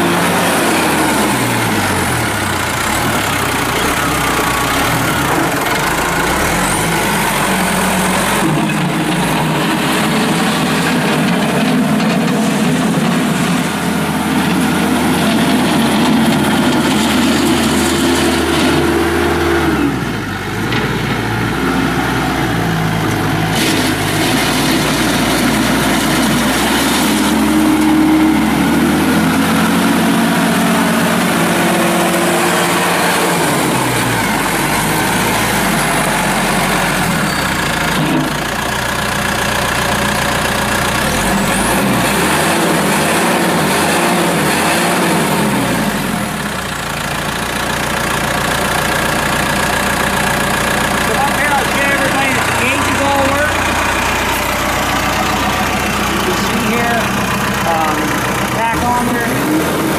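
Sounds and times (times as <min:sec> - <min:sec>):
tires on gravel: 0:00.0 - 0:59.9
tractor diesel engine running: 0:00.0 - 0:59.9.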